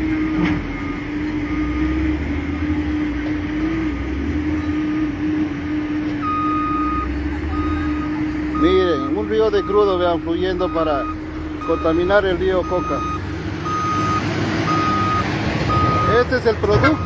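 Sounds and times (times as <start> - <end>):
low mechanical drone: 0.0 - 17.0.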